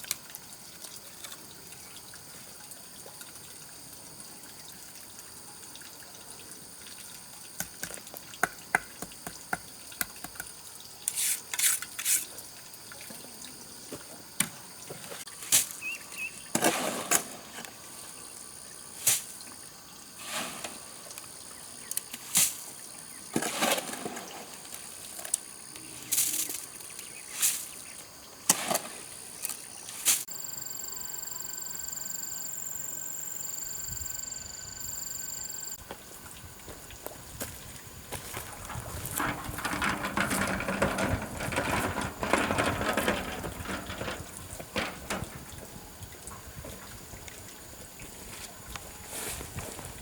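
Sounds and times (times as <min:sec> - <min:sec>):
water splashes and drips: 0:00.0 - 0:30.3, 0:35.8 - 0:48.9.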